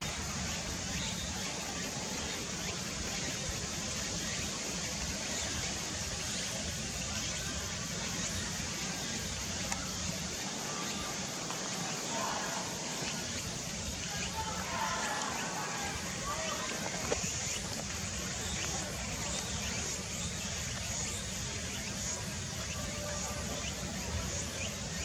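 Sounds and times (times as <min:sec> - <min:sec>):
even hiss: 0:00.0 - 0:25.0.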